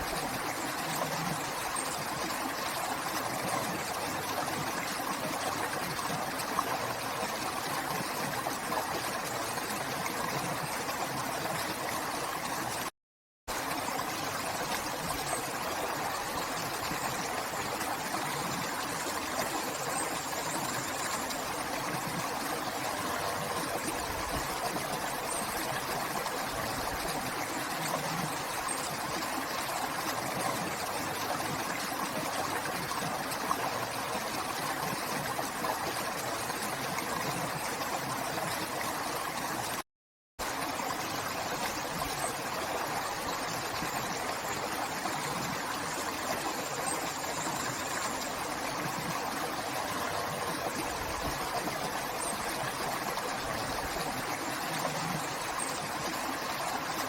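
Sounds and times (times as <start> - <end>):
river water flowing: 0.0 - 12.9, 13.5 - 39.8, 40.4 - 57.0.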